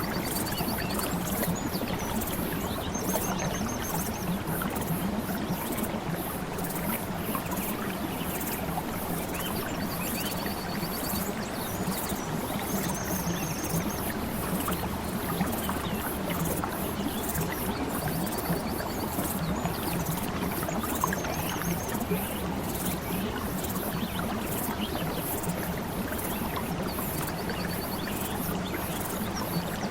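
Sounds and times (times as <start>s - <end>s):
flowing water: 0.0s - 29.9s.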